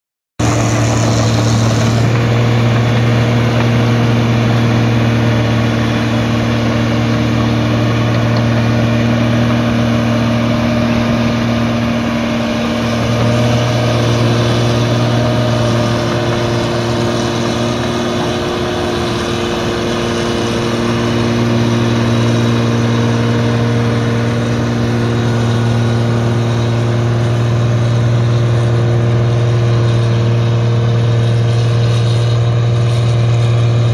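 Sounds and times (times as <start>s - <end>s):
diesel engine running: 0.4s - 33.9s.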